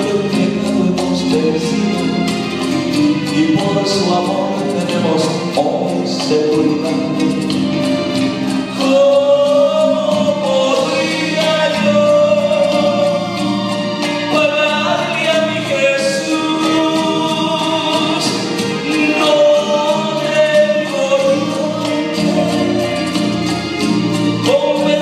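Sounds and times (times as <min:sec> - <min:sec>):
man singing gospel song: 0:00.0 - 0:02.3, 0:03.1 - 0:07.6, 0:08.6 - 0:25.0
recorded backing music: 0:00.0 - 0:25.0.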